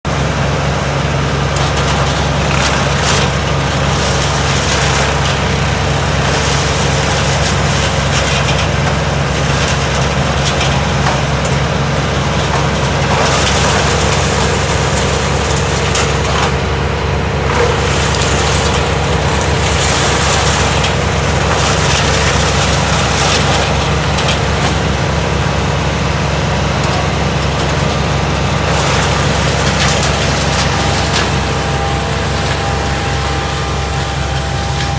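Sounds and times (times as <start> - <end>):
wood chipper engine drone: 0.0 - 34.9
wood crackling and crunching: 0.2 - 34.9.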